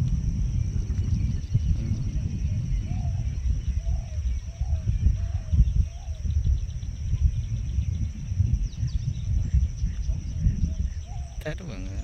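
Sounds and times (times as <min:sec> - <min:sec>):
high-pitched insect drone: 0:00.0 - 0:12.0
uneven low rumbling: 0:00.0 - 0:12.0.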